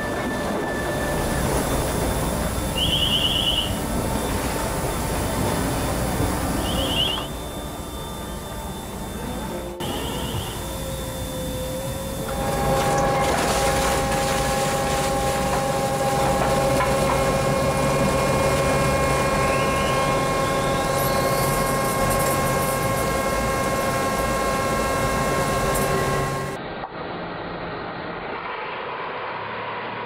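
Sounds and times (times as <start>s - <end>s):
mining machinery rumbling: 0.0s - 26.6s
faint rising whine: 0.0s - 30.0s.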